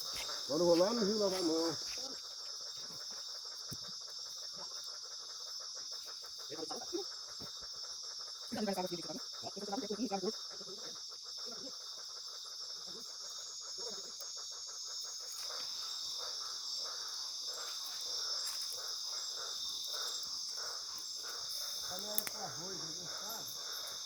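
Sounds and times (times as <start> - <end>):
crickets and insects droning: 0.0 - 24.0
soft repeated insect pulses: 0.0 - 24.0.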